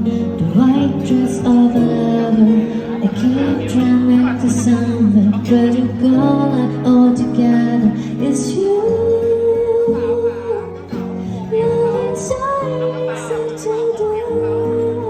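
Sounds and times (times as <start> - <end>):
band playing slow pop song: 0.0 - 15.0
woman singing: 0.0 - 15.0.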